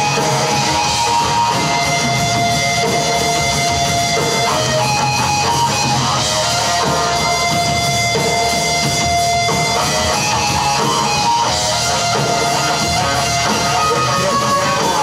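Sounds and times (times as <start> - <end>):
distorted electric guitar: 0.0 - 15.0
live rock band playing: 0.0 - 15.0.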